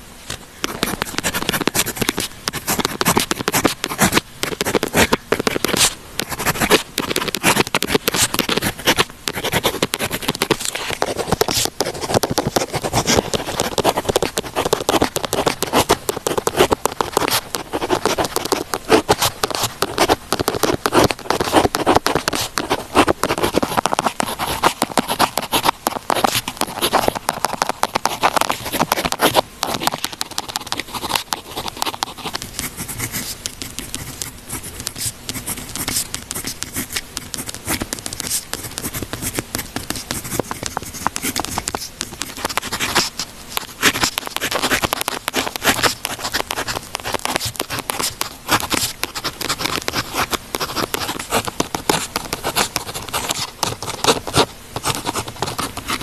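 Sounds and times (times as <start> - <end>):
pen scratching on paper: 0.6 - 56.0.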